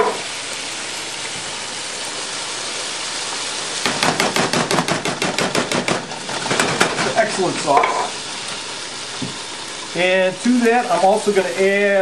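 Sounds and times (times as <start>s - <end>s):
sauce sizzling in a hot pan: 0.0s - 12.0s.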